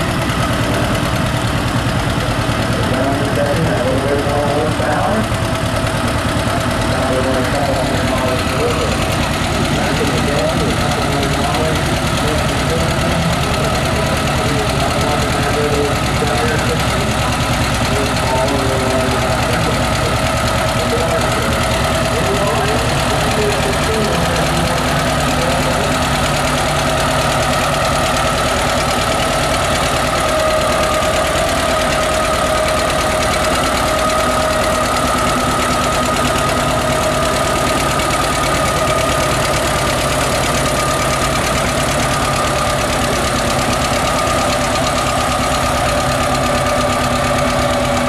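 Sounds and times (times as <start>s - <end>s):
tractor engine running under load: 0.0s - 48.0s.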